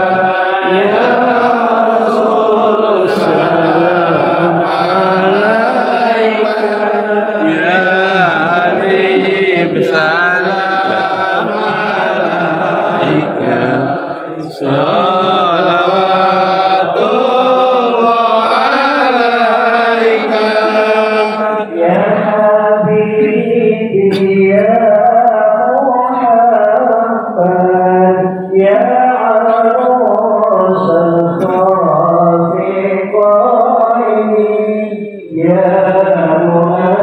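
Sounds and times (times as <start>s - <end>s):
congregation chanting: 0.0s - 37.0s.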